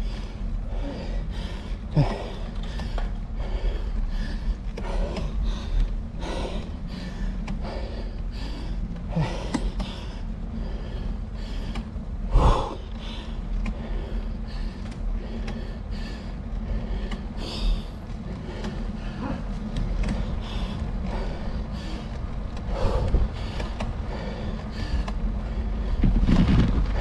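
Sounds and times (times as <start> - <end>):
person breathing hard: 0.0 - 27.0
steady low rumble: 0.0 - 27.0.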